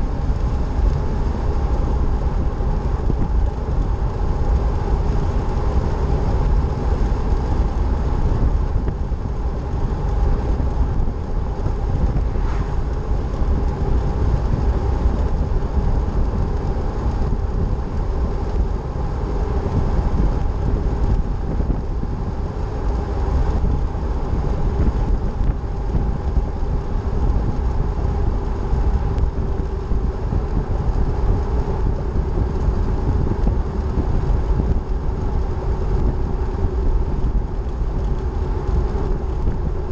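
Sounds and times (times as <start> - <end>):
tyres and engine rumble: 0.0 - 39.9.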